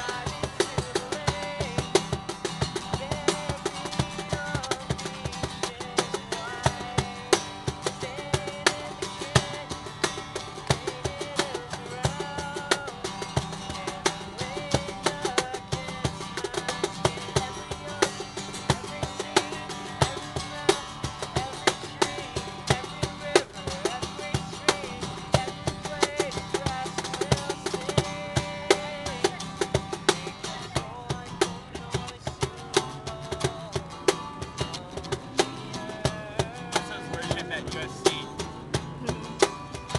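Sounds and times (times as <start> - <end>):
acoustic guitar: 0.0 - 39.9
cajon slapped in rhythm: 0.0 - 39.9.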